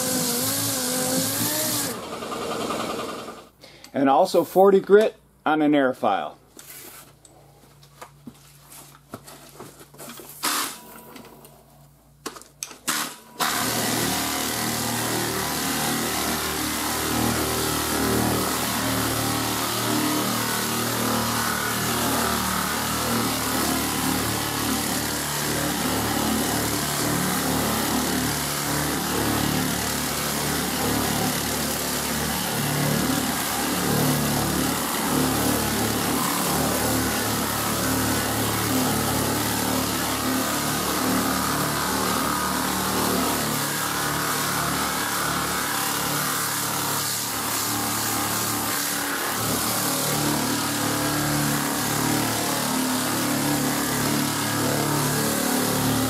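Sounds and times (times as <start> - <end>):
pneumatic sander running: 0.0 - 3.7, 10.4 - 11.0, 12.8 - 56.0.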